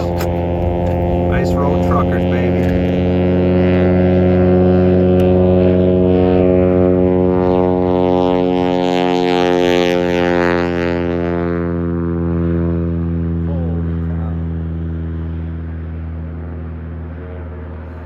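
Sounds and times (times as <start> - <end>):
propeller engine running: 0.0 - 18.0.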